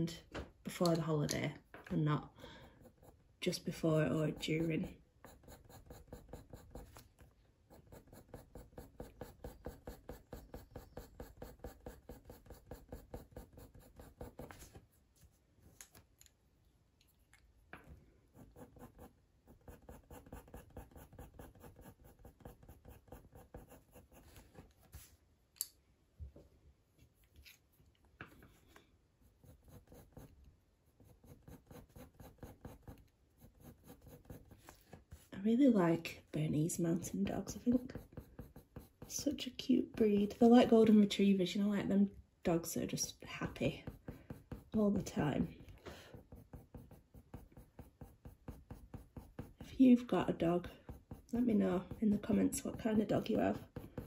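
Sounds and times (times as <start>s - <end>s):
coloured pencil scratching on paper: 2.2s - 15.4s, 18.2s - 25.1s, 29.2s - 41.2s, 42.7s - 54.0s.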